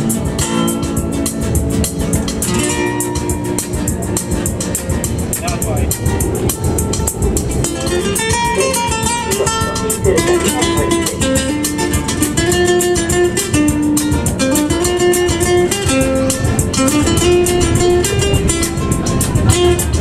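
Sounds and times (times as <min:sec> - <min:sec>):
acoustic guitars strumming: 0:00.0 - 0:20.0
guitar melody of held notes: 0:00.0 - 0:20.0.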